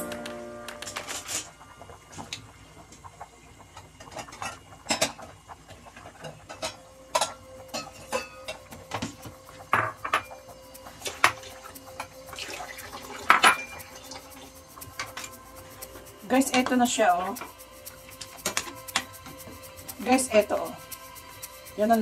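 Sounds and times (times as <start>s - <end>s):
cookware and utensils clinking: 4.0s - 22.0s.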